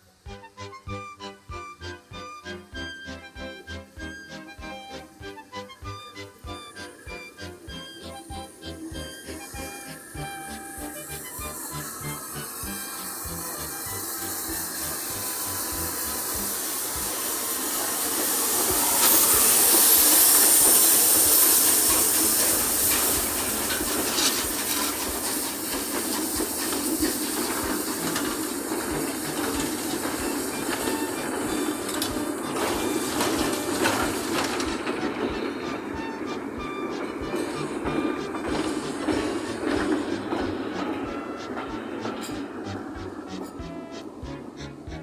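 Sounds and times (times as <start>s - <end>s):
steam hissing: 0.0s - 45.0s
train rumbling: 0.0s - 45.0s.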